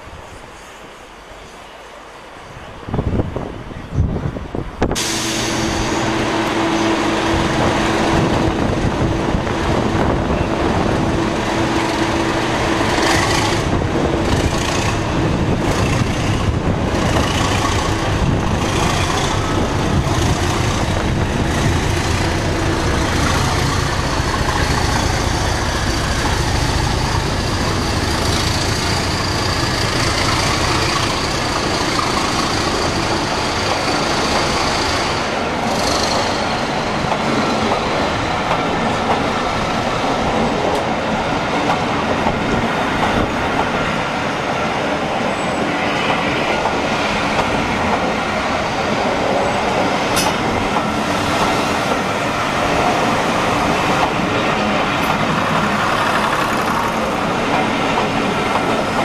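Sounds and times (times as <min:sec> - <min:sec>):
diesel locomotive engine: 0:00.0 - 0:59.0.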